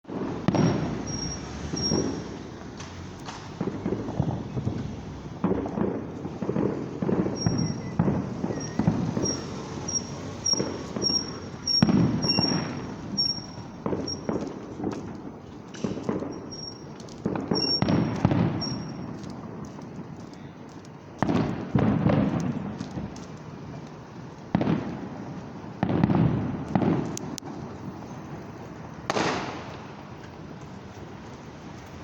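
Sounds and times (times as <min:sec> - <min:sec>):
muffled firework bangs: 0:00.1 - 0:28.1, 0:28.8 - 0:30.6.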